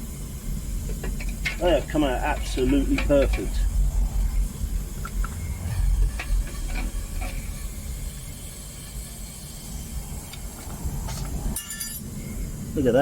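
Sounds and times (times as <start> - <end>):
gas burner rumble and hiss: 0.0 - 13.0.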